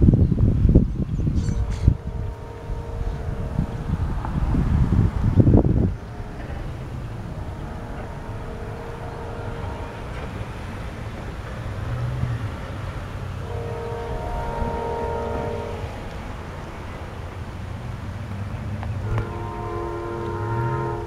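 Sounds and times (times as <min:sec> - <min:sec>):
train rumble: 0:00.0 - 0:21.0
wind buffeting microphone: 0:00.0 - 0:21.0
locomotive chime horn: 0:01.4 - 0:12.7, 0:13.3 - 0:17.3, 0:19.0 - 0:21.0.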